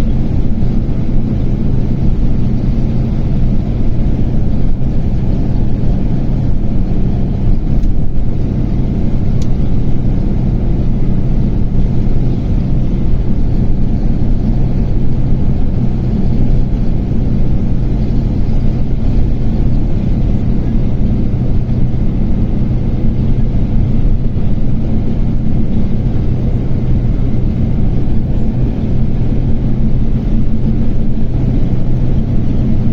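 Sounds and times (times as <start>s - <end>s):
low engine drone: 0.0s - 32.9s.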